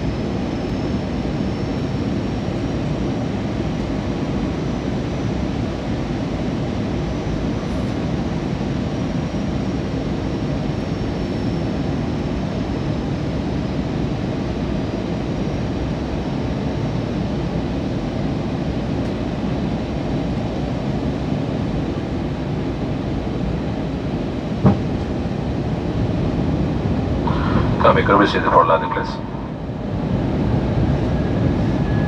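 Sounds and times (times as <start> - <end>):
airliner cabin engine and airflow noise: 0.0 - 32.0.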